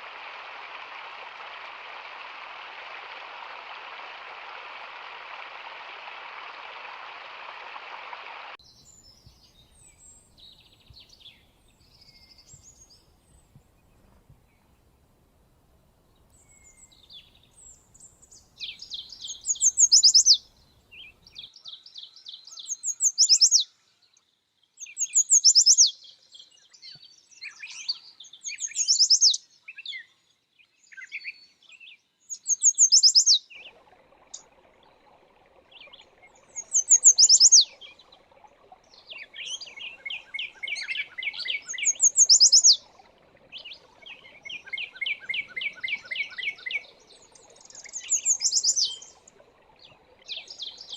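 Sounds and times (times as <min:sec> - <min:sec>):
faint background hiss: 0:00.0 - 0:50.9
songbird singing: 0:08.6 - 0:15.2, 0:15.9 - 0:50.9.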